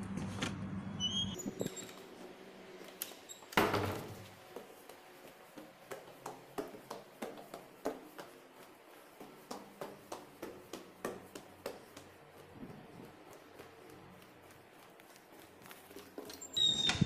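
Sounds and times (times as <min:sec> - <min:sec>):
footsteps going down stairs: 0:01.4 - 0:17.0.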